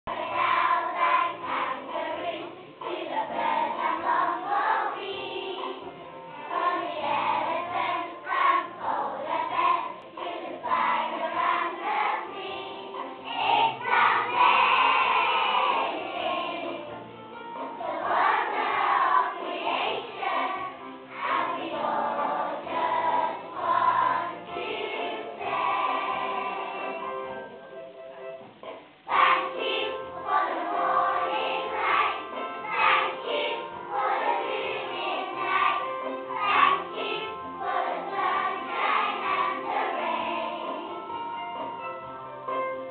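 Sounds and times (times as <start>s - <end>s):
children's choir singing: 0.1s - 27.6s, 29.0s - 41.7s.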